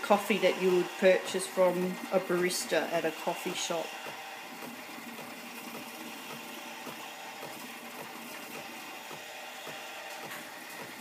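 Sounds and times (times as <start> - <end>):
steam wand frothing milk: 0.0 - 11.0.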